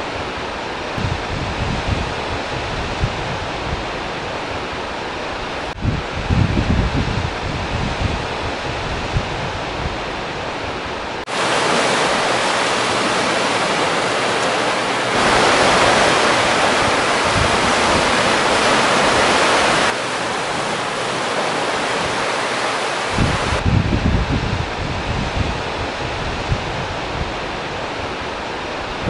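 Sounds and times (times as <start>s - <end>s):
sea surf washing onto shore: 0.0s - 29.0s
wind gusting on microphone: 0.0s - 29.0s.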